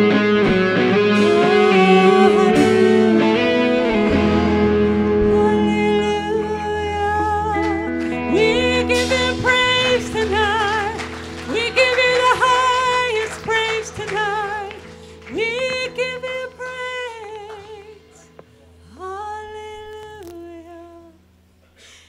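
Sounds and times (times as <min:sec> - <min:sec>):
sustained keyboard chords: 0:00.0 - 0:21.0
woman singing with vibrato: 0:01.0 - 0:21.2.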